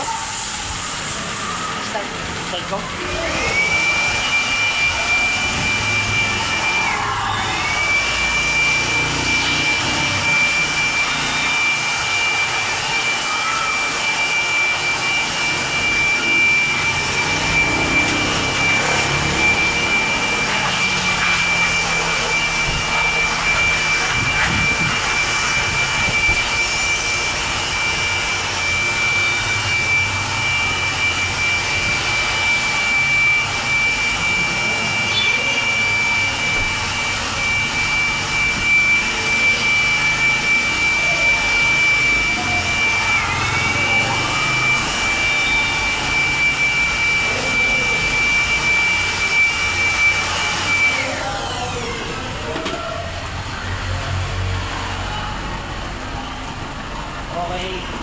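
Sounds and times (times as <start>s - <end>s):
high-speed machine whining: 0.0s - 58.0s.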